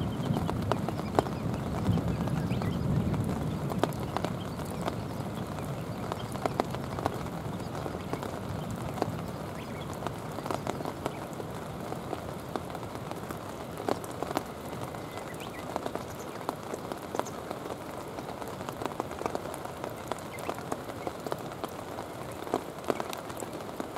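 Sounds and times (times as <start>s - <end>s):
close raindrop ticks: 0.0s - 23.9s
rain on stones: 0.0s - 23.9s.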